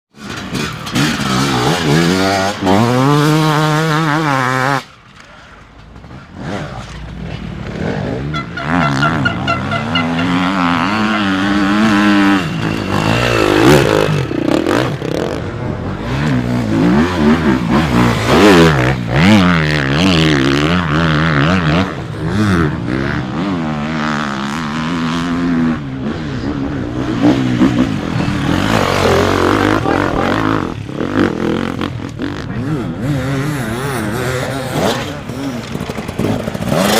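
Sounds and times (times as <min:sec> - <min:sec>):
dirt bike engines revving: 0:00.2 - 0:36.9.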